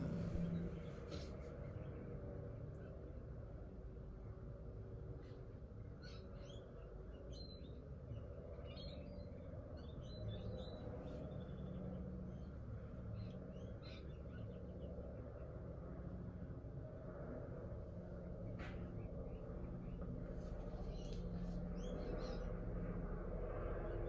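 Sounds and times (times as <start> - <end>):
small birds chirping: 0.0 - 3.4, 5.2 - 16.1, 17.7 - 22.7
low background hum: 0.0 - 24.0.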